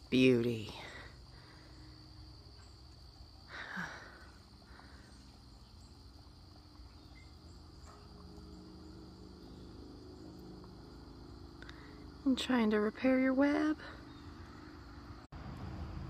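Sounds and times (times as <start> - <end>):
high-pitched insect trill: 0.0 - 15.3.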